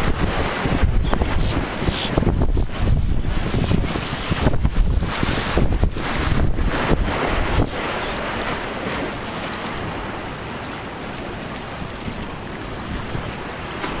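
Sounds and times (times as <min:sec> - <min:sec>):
rough water and breaking surf: 0:00.0 - 0:14.0
wind buffeting microphone: 0:00.0 - 0:14.0.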